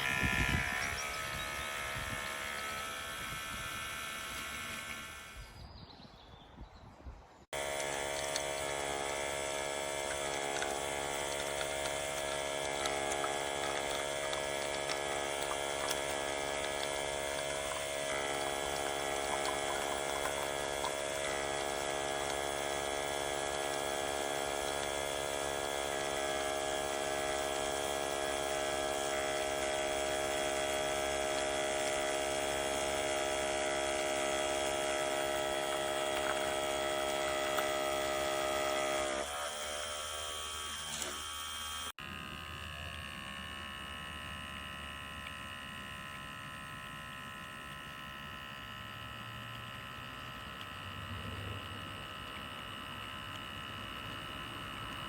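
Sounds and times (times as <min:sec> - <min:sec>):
electric pump whining: 0:00.0 - 0:05.7, 0:07.5 - 0:55.0.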